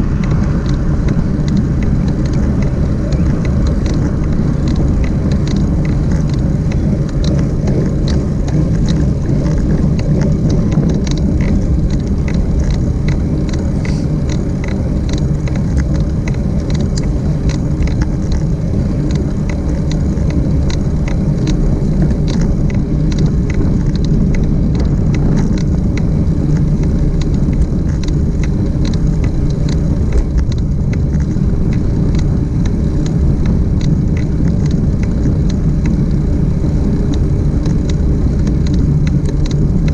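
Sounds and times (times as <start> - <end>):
small sharp ticks and rattles: 0.0 - 39.9
wind rumble on microphone: 0.0 - 39.9.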